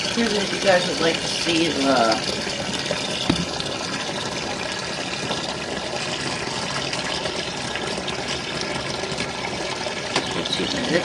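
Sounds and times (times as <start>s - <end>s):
water running into plastic tub: 0.0s - 11.0s.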